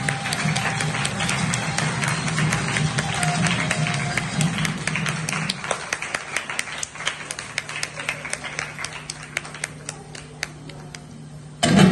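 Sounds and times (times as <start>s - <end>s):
audience applause: 0.0s - 11.1s.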